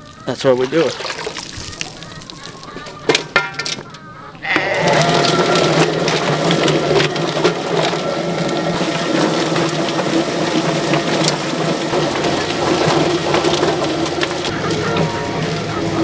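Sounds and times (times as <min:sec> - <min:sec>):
motor hum: 0:01.6 - 0:16.0.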